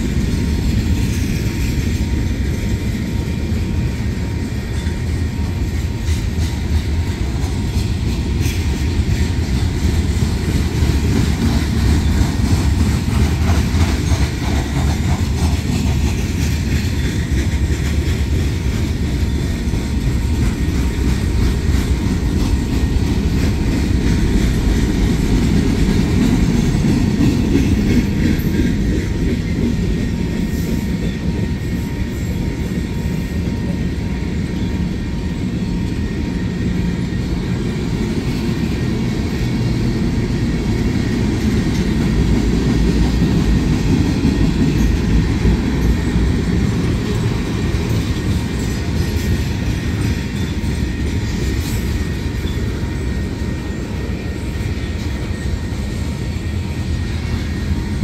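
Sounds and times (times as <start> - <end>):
freight train rolling on rails: 0.0 - 58.0.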